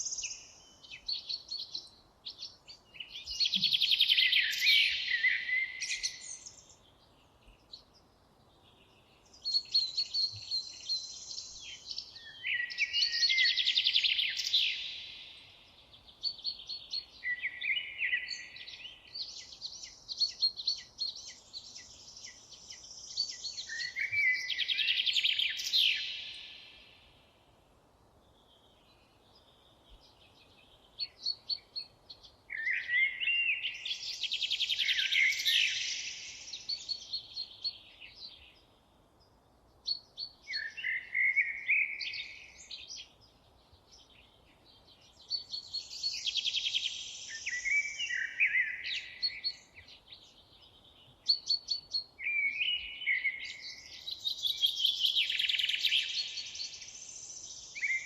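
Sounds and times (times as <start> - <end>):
songbird singing trills: 0.0 - 27.4, 28.3 - 58.0.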